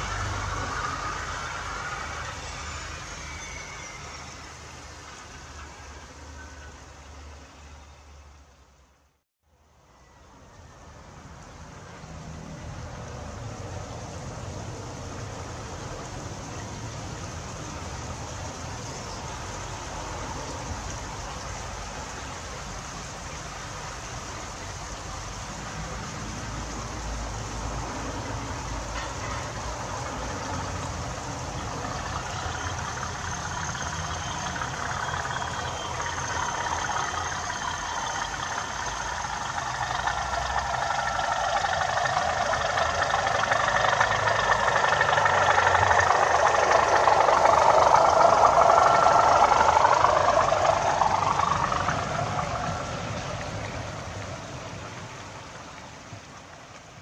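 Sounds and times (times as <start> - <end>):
model train running on track: 0.0 - 8.8, 10.0 - 57.0.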